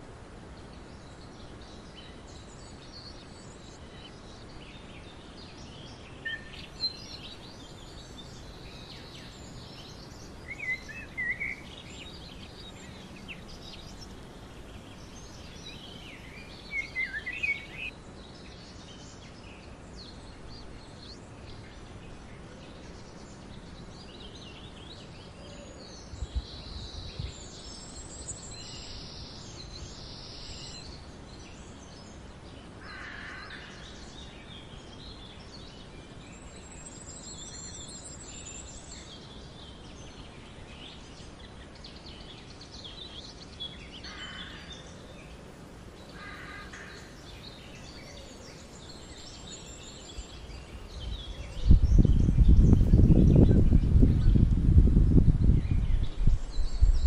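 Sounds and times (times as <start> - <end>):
outdoor background hiss: 0.0 - 57.0
birds calling and chirping: 0.7 - 54.8.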